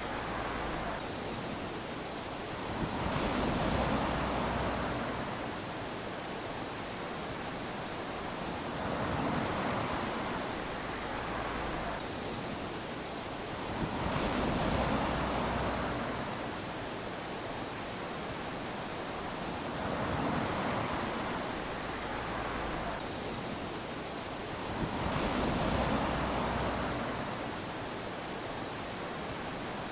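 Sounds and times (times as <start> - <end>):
small waves lapping on sand: 0.0 - 29.9.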